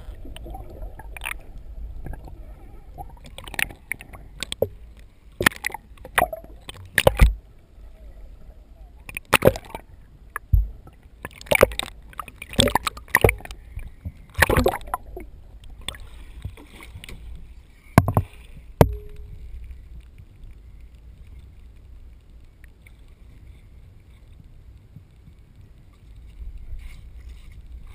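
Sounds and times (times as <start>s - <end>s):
water splashing against camera: 0.0s - 24.4s
low rumble of water: 0.0s - 27.9s.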